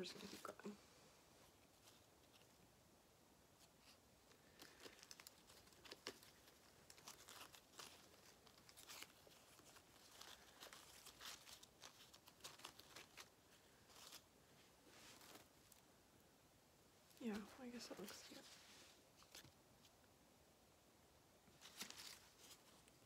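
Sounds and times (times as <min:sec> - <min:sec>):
fake leaves rustling and crinkling: 0:00.0 - 0:20.2, 0:21.3 - 0:23.0.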